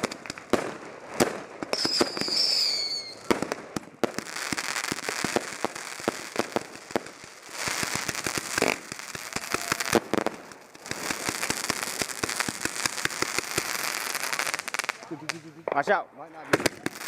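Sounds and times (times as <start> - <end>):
crackling hiss of fireworks: 0.0 - 17.0
fireworks pops and bangs: 0.0 - 17.0.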